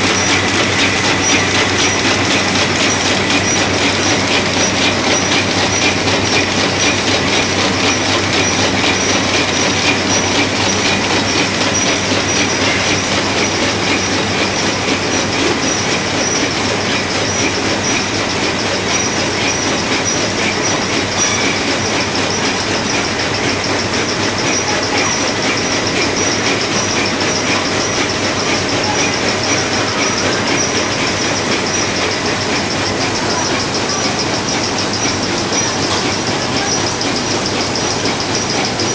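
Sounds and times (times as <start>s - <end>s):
conveyor rattling: 0.0s - 38.9s
high-pitched machine whine: 0.0s - 38.9s.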